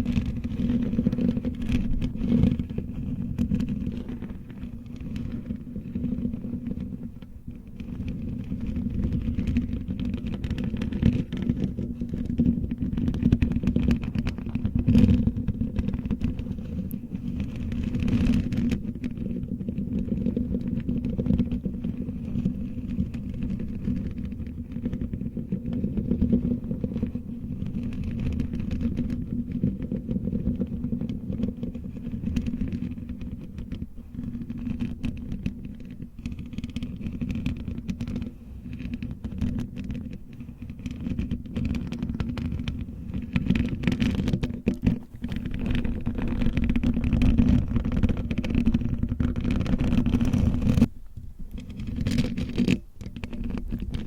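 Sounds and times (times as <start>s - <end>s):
fingernails scratching microphone: 0.0s - 54.0s.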